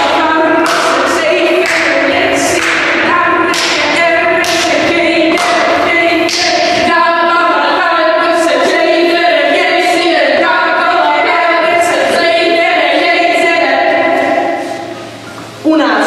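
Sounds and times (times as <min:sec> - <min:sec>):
women singing without instruments: 0:00.0 - 0:14.8.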